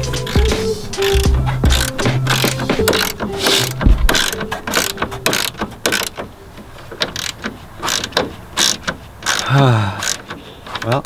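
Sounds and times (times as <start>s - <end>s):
ratchet wrench clicking: 0.0s - 6.3s, 6.9s - 11.0s.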